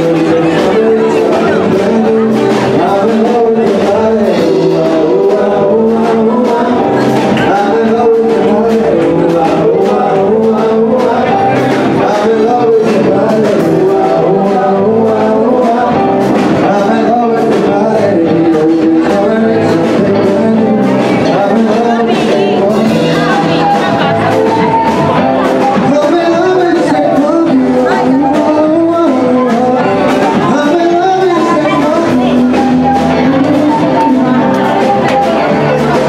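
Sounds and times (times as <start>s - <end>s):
loud music with singing: 0.0s - 36.0s.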